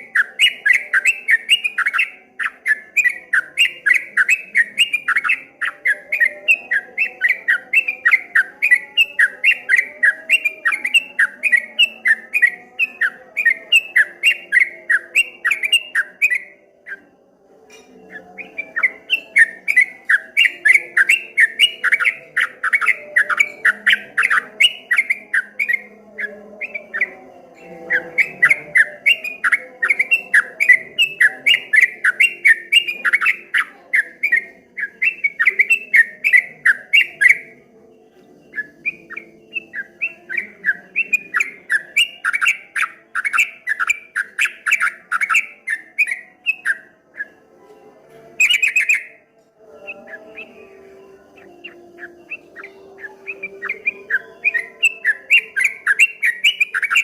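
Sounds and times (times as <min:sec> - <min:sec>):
bulbul singing chirping notes: 0:00.0 - 0:57.0.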